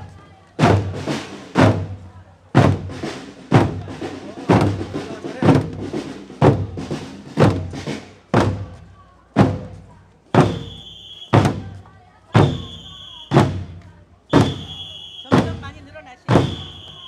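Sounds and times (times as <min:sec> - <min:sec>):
big drum beating: 0:00.0 - 0:17.0.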